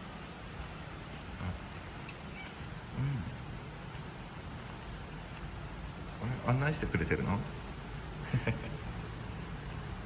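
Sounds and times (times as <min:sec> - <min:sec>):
outdoor ambience hiss: 0:00.0 - 0:10.0.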